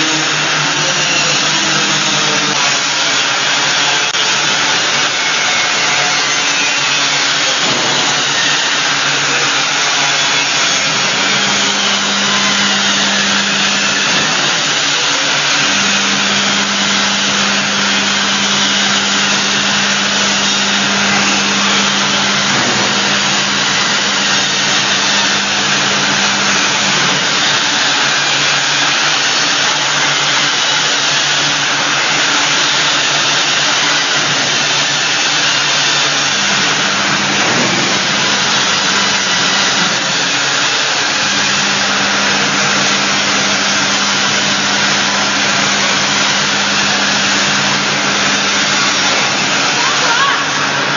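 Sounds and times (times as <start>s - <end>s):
bottle washing machine running: 0.0s - 50.9s.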